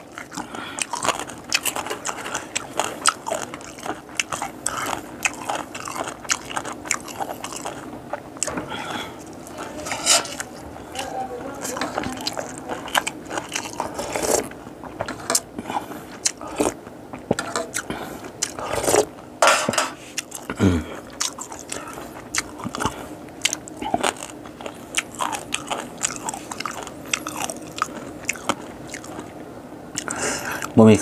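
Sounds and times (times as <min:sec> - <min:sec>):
chewing and crunching: 0:00.0 - 0:30.8.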